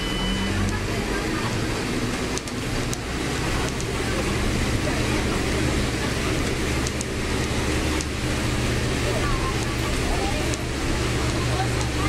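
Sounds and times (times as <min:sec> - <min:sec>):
bus engine hum: 0:00.0 - 0:12.0
road and body noise: 0:00.4 - 0:12.0.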